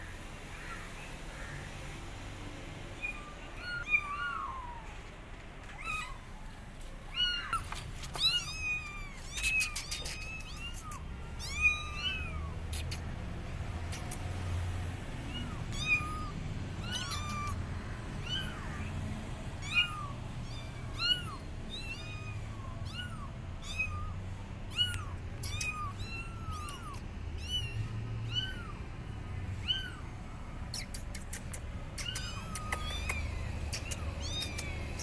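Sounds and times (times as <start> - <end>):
kittens meowing: 2.9 - 5.0, 5.7 - 13.2, 15.2 - 35.0.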